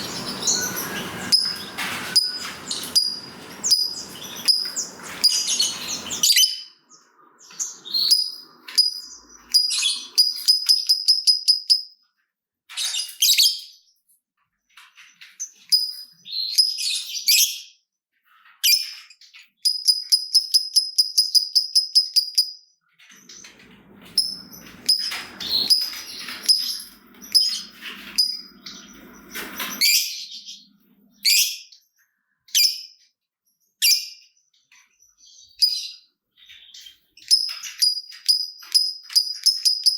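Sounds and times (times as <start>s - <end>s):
lovebirds chirping and clicking: 0.0s - 12.0s, 14.7s - 17.7s, 18.3s - 33.2s, 33.8s - 39.9s.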